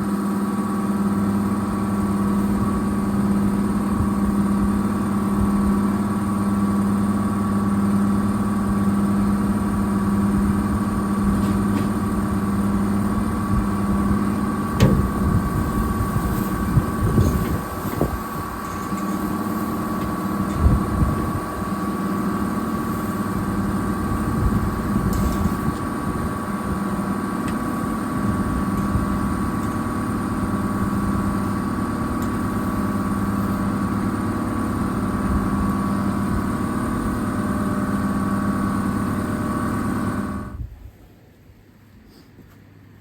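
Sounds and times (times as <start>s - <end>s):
machine motor droning hum: 0.0s - 40.6s.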